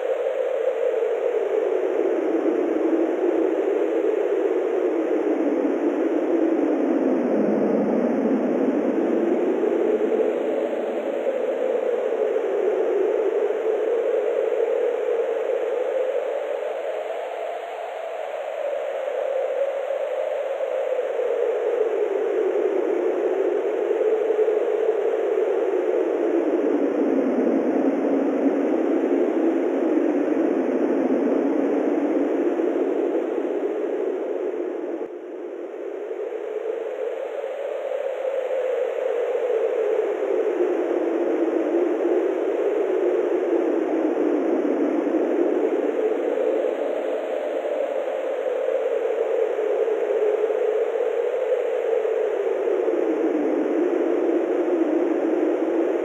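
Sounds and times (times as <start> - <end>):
wind rushing over grassland: 0.0 - 56.0.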